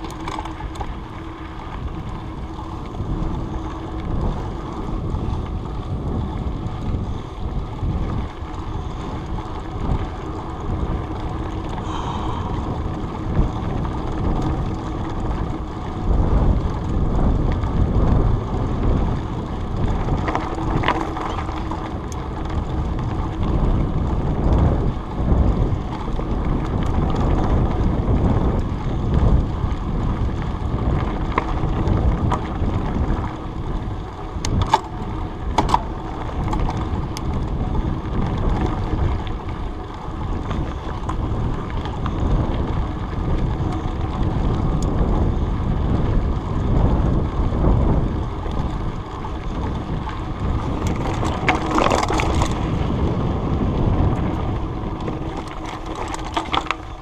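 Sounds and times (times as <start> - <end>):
bike clicks and rattles: 0.0 - 57.0
tyres rumbling on dirt: 0.0 - 57.0
wind buffeting microphone: 0.0 - 57.0.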